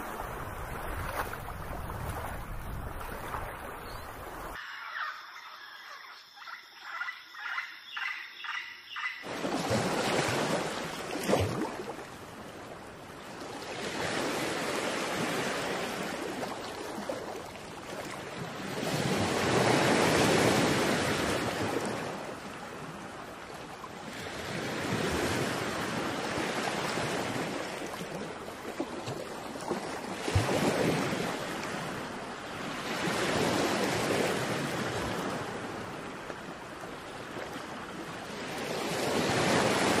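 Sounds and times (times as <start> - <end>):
waves breaking on shore: 0.0 - 4.6, 9.2 - 40.0.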